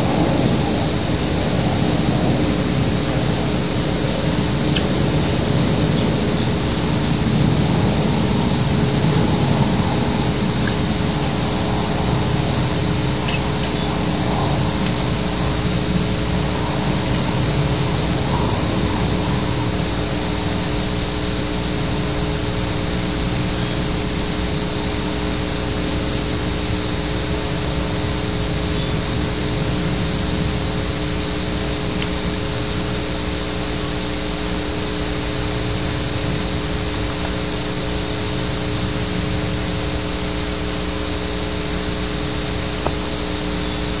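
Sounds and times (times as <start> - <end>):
camera audio hum and hiss: 0.0 - 44.0.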